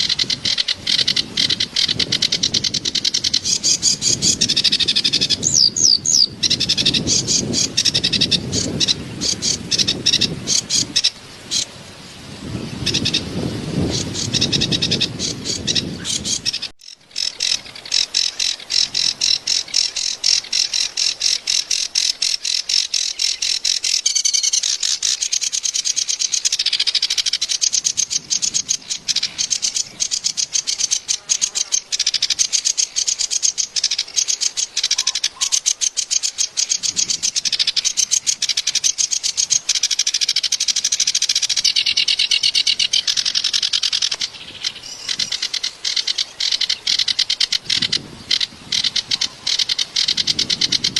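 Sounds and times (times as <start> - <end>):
warbler harsh chattering song: 0.0 - 11.7, 12.5 - 50.9.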